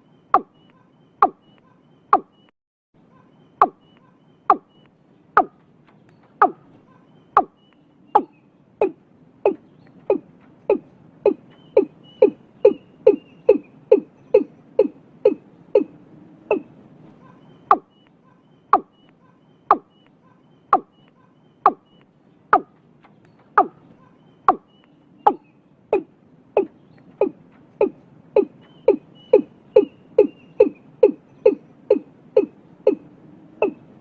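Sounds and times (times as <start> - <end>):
bird calling hollow notes: 0.0 - 2.5, 3.2 - 34.0.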